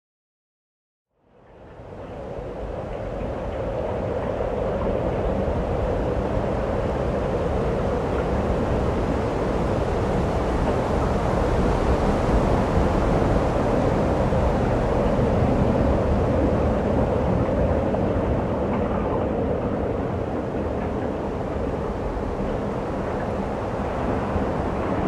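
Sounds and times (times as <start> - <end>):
low rumbling noise: 1.3 - 25.0.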